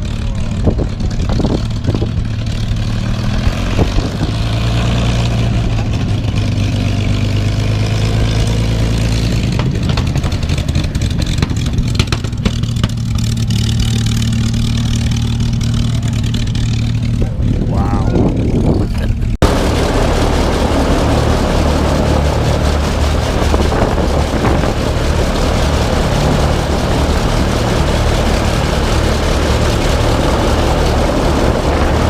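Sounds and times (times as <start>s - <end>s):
aircraft engine running: 0.0s - 32.0s.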